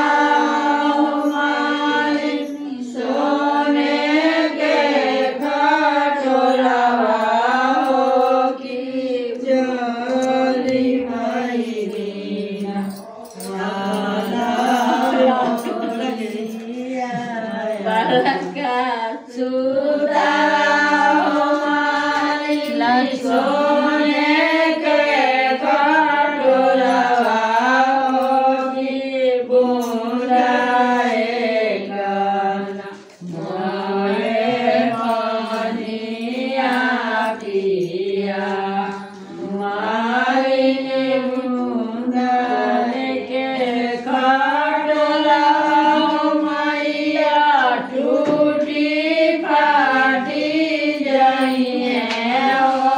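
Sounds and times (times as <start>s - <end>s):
women singing unaccompanied: 0.0s - 52.9s.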